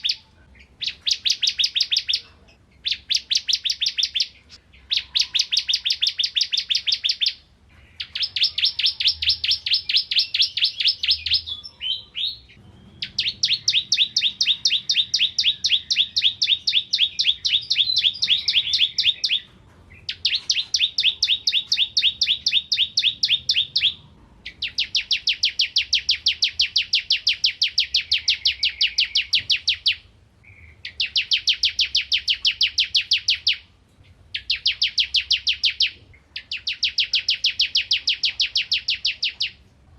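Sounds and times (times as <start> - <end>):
bird song of fast high notes: 0.0 - 33.7, 34.3 - 39.6.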